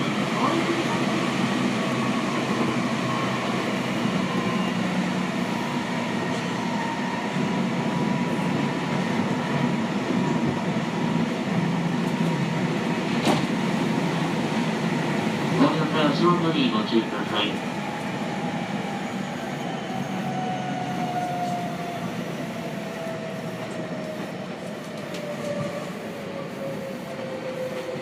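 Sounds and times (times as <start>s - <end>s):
train wheels and motors rumbling: 0.0s - 28.0s.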